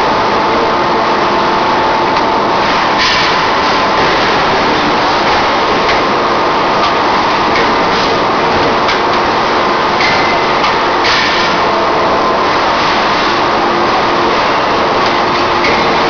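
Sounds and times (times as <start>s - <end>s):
welding machinery noise: 0.0s - 16.0s.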